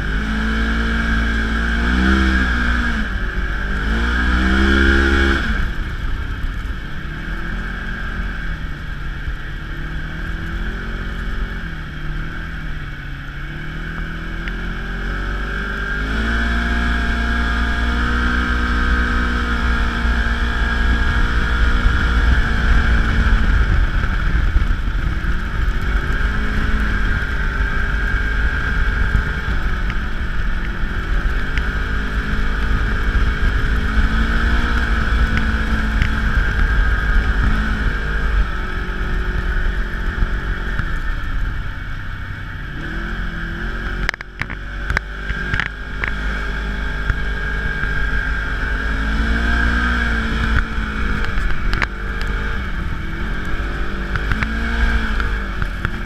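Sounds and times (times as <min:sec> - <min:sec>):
steady high whine: 0:00.0 - 0:56.0.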